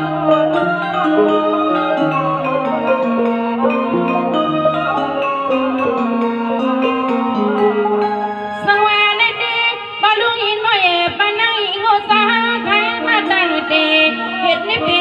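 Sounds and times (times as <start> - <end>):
held accompaniment notes: 0.0 - 15.0
woman singing into a microphone: 0.0 - 15.0.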